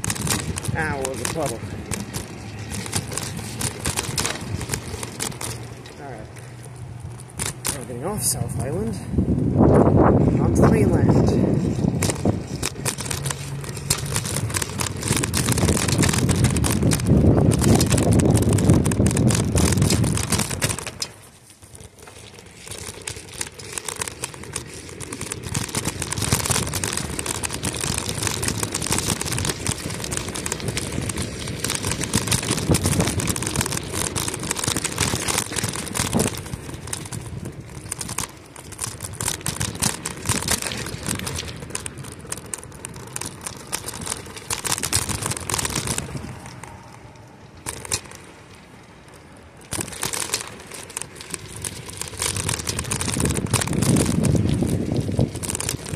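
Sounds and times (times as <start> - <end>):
bicycle tyres rolling over wet leaves: 0.0 - 55.9.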